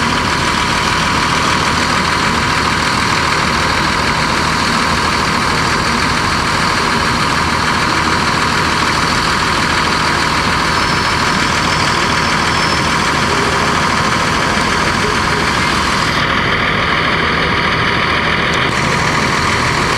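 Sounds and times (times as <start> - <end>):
diesel bus engine running: 0.0 - 19.9.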